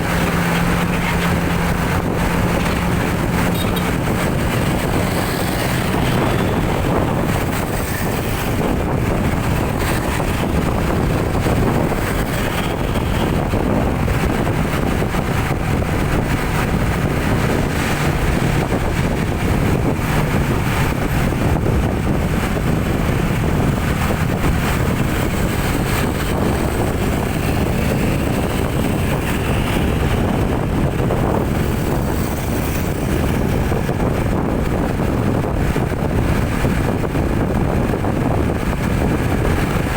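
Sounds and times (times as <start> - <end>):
vehicle engine and road noise: 0.0 - 39.9
wind rumble on microphone: 0.0 - 39.9.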